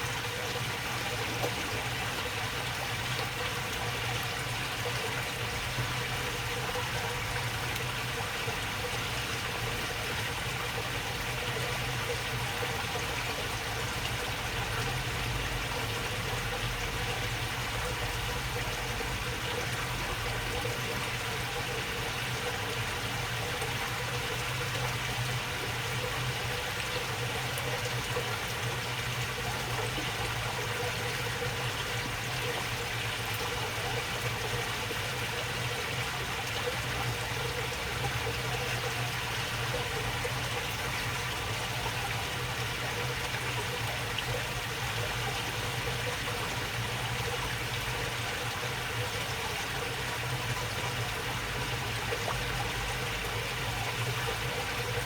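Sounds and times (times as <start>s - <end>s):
water babbling in a channel: 0.0s - 55.0s.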